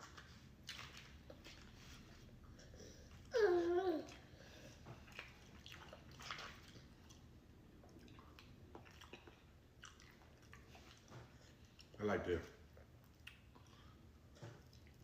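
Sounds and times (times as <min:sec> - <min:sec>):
person chewing wetly: 0:00.0 - 0:03.4, 0:04.0 - 0:12.0, 0:12.6 - 0:15.0.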